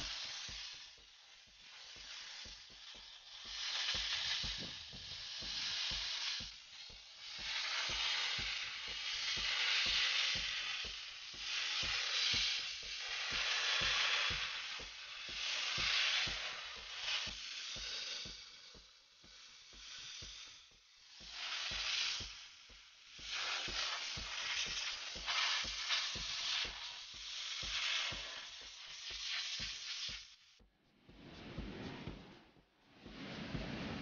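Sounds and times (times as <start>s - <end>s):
rapid low pops: 0.0s - 34.0s
steam cleaner hissing: 0.0s - 34.0s.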